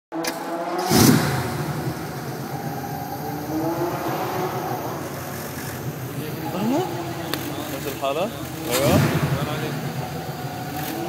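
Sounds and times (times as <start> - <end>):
car engine idling and revving: 0.1 - 11.0.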